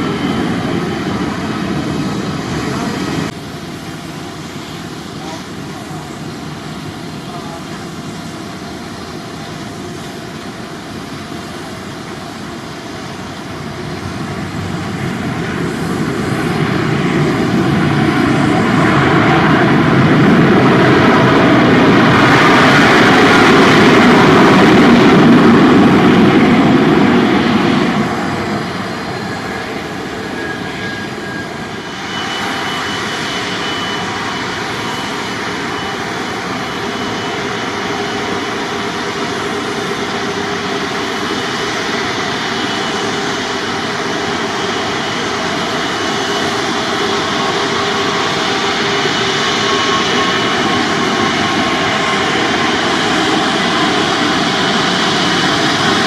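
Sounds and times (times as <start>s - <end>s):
jet airliner engine noise: 0.0s - 56.0s.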